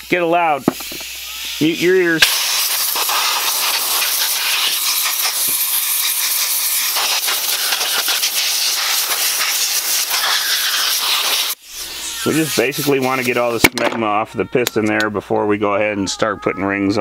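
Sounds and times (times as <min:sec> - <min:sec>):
air blow gun hissing: 0:00.0 - 0:13.8.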